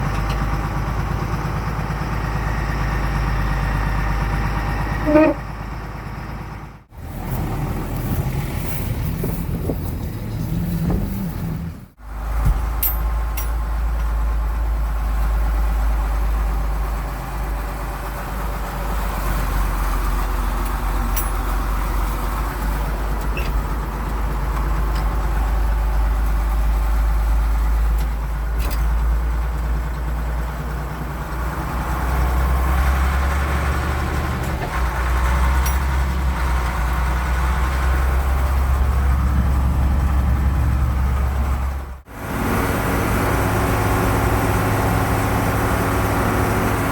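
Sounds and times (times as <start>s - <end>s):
farm vehicle engine running: 0.0s - 46.9s.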